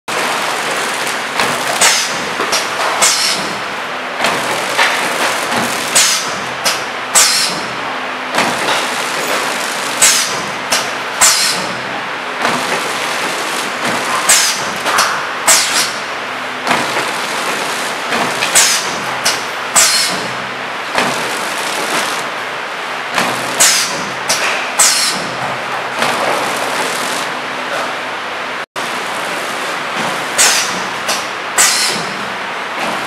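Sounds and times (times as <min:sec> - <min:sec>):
machine mechanical hum: 0:00.1 - 0:33.0
sealer clacks with air hisses: 0:00.2 - 0:07.8, 0:08.4 - 0:22.4, 0:23.1 - 0:27.9, 0:29.9 - 0:33.0.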